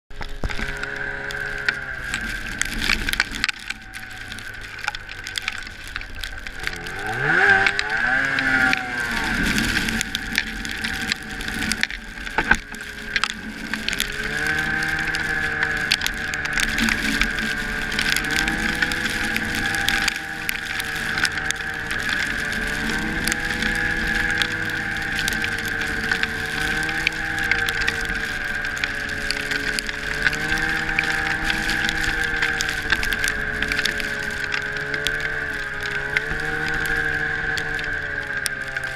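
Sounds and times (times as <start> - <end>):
sharp clicks and knocks: 0.1 - 38.9
snowmobile engine revving: 0.3 - 4.9, 5.7 - 38.9.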